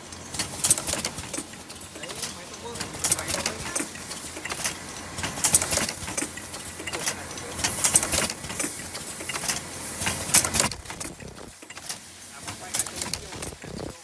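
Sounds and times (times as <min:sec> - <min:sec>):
mechanical clicks and clacks: 0:00.0 - 0:14.0
welding machine running: 0:00.0 - 0:14.0.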